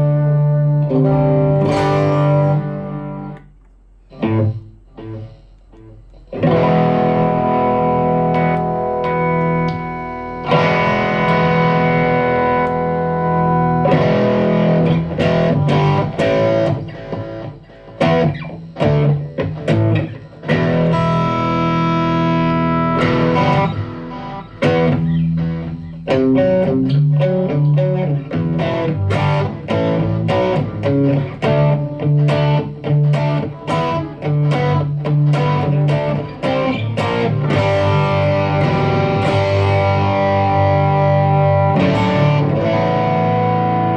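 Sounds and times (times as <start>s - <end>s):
electric guitar chords and strokes: 0.0s - 43.9s.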